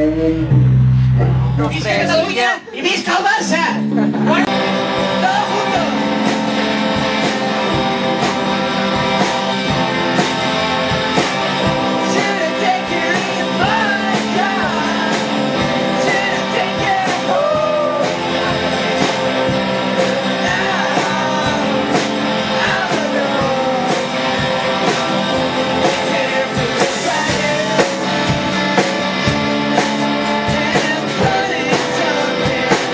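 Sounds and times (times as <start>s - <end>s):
live rock band playing: 0.0s - 2.5s, 3.4s - 32.9s.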